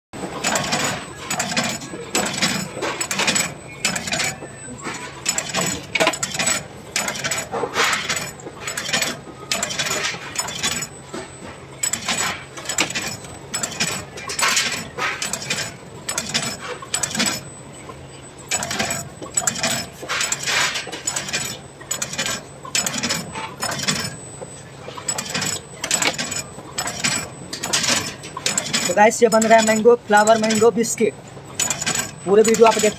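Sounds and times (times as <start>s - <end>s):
metallic clattering and clinking: 0.3s - 17.9s, 18.5s - 32.9s.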